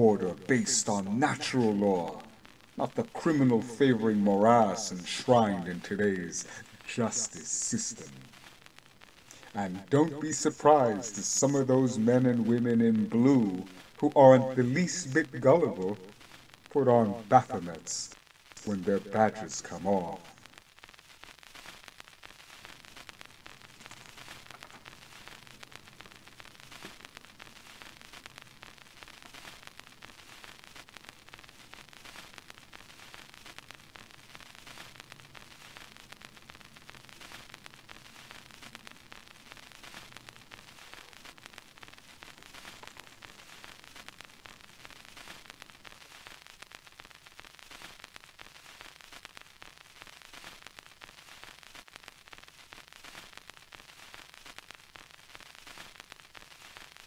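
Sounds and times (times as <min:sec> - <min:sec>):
faint static hiss: 0:00.0 - 0:57.0.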